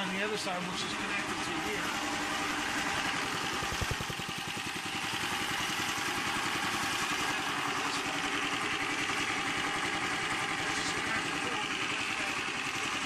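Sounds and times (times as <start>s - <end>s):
gasoline engine running: 0.0s - 13.0s.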